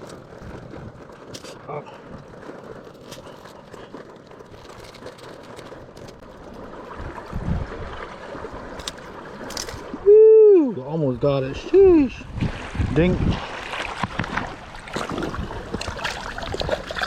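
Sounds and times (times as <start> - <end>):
water lapping and gurgling: 0.0 - 17.0.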